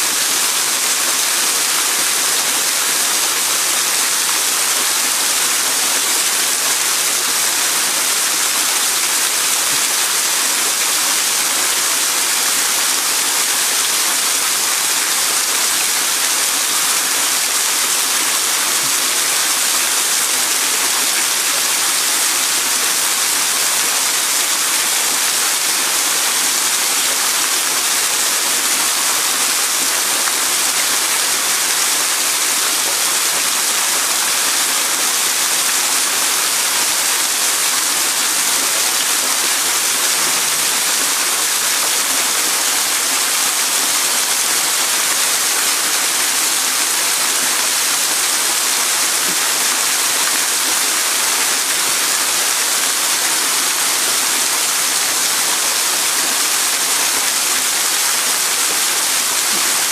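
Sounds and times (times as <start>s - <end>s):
waterfall splashing: 0.0s - 59.9s.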